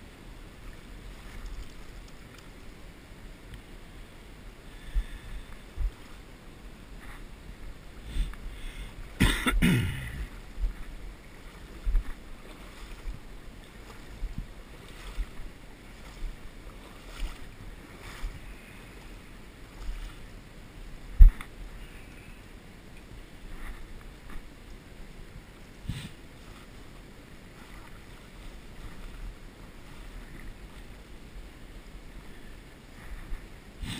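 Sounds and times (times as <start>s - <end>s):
wading through shallow water: 0.0s - 33.9s.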